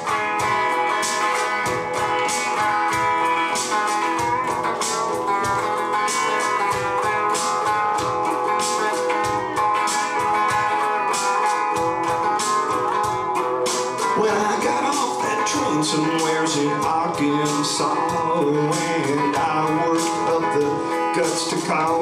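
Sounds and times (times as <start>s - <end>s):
electric guitar country instrumental: 0.0s - 22.0s.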